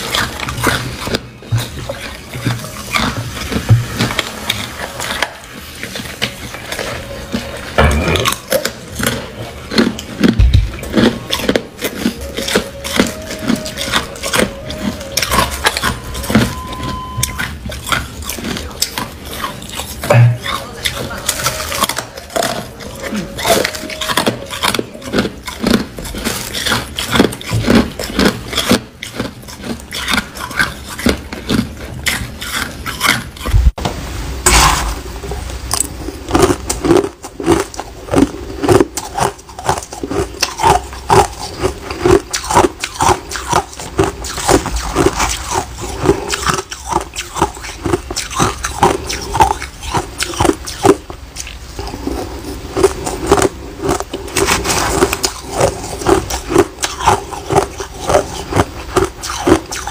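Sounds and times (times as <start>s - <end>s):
ice being chewed: 0.0s - 33.7s, 35.7s - 59.9s.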